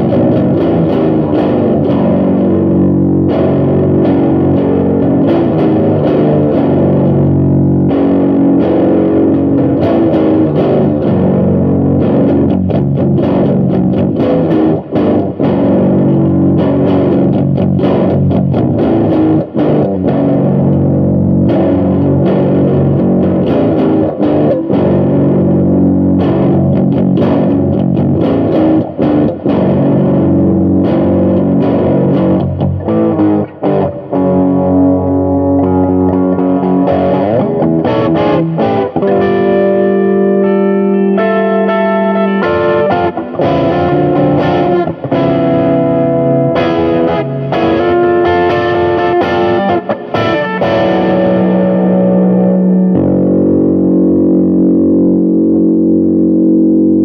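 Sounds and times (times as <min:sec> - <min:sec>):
distorted electric guitar: 0:00.0 - 0:57.0.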